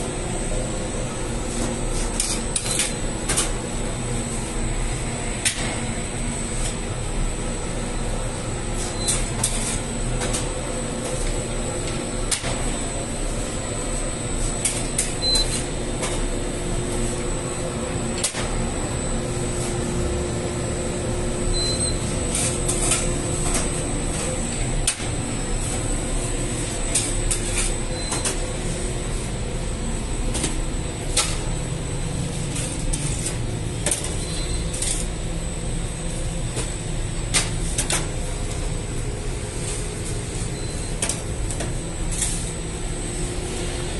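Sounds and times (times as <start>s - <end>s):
bakery machinery drone: 0.0s - 43.9s
high steady whine: 0.0s - 43.9s.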